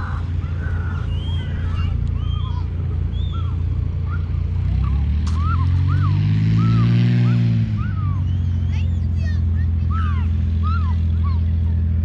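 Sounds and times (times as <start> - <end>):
light aircraft engine droning: 0.0 - 12.0
steady low rumble: 0.0 - 12.0.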